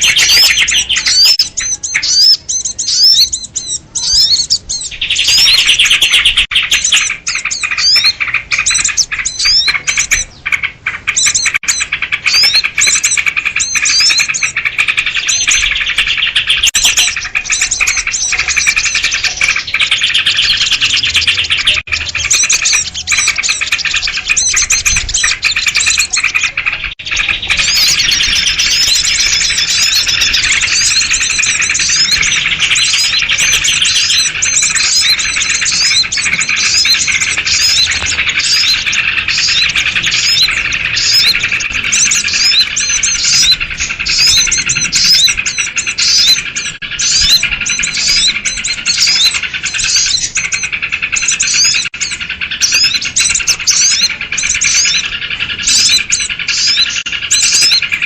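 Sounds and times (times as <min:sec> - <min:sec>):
songbirds chirping and chattering: 0:00.0 - 0:58.0.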